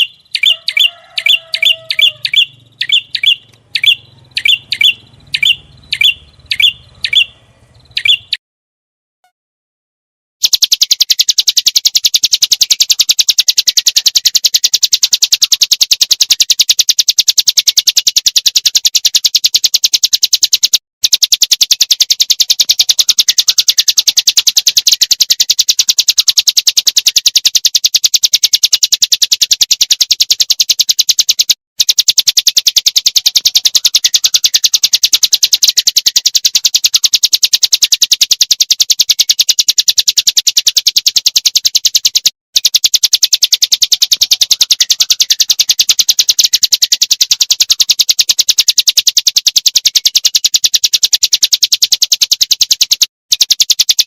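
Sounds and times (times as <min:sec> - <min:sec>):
songbird rapid trill: 0:00.0 - 0:08.4, 0:10.4 - 0:54.0.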